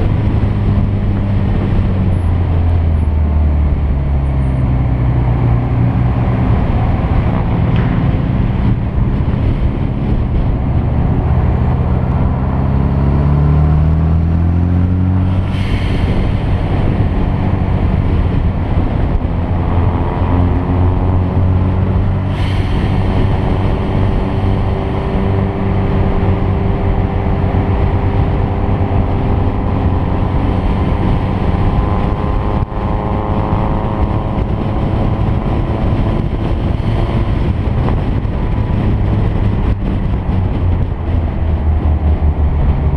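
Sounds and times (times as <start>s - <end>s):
car engine accelerating hard: 0.0s - 42.9s.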